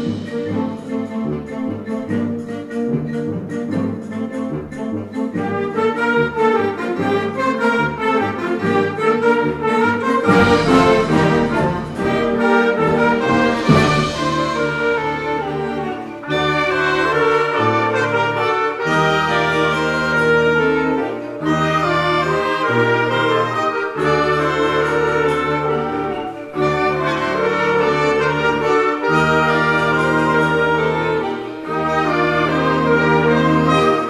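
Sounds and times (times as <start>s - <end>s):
wind band playing: 0.0s - 34.0s.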